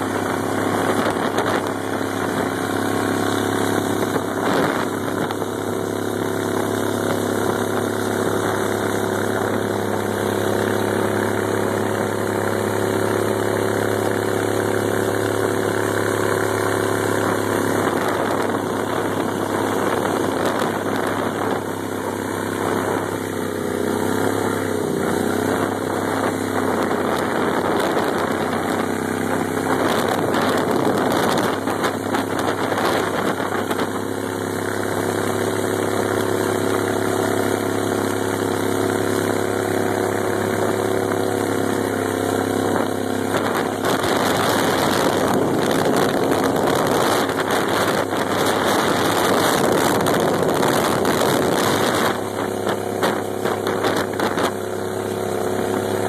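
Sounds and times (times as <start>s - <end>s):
boat motor running at speed: 0.0s - 56.0s
water spray rushing: 0.0s - 56.0s.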